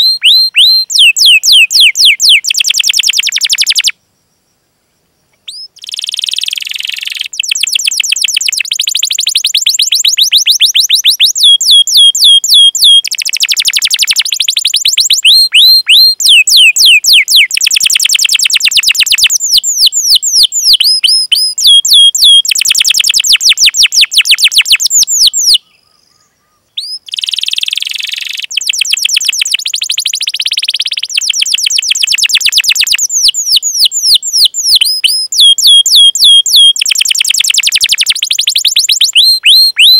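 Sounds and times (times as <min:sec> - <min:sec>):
canary singing rolling trills: 0:00.0 - 0:04.0, 0:05.4 - 0:39.9.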